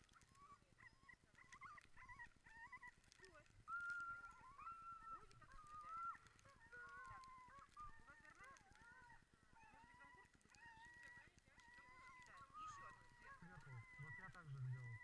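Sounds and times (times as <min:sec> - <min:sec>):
dogs whining and howling: 0:00.0 - 0:15.0.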